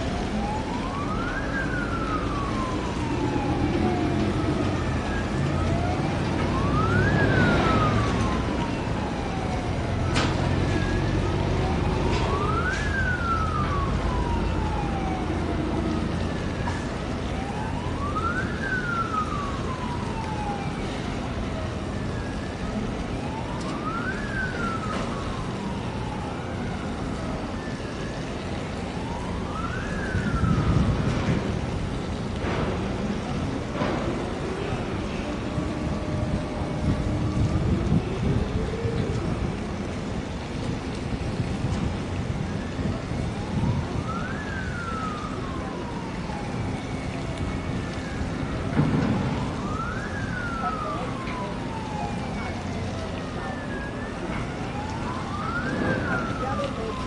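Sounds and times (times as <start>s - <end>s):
siren wailing slowly: 0.0s - 57.0s.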